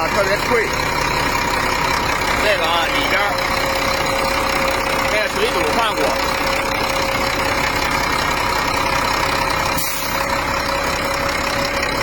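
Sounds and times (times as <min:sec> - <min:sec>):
diesel engine idling: 0:00.0 - 0:12.0
steady engine whine: 0:00.0 - 0:12.0.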